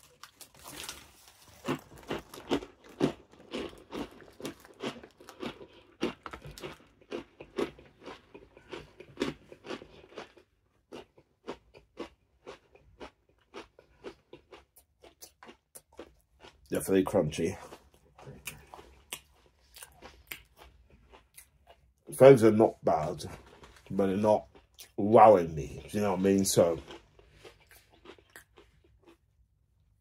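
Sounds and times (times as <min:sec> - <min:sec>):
crunching and chewing peanuts: 0:00.0 - 0:30.0.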